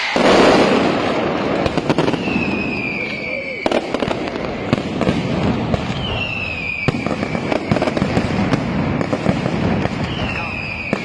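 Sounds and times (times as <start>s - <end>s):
firecracker bangs and crackling: 0.0s - 11.0s
whistling firework: 0.0s - 11.0s.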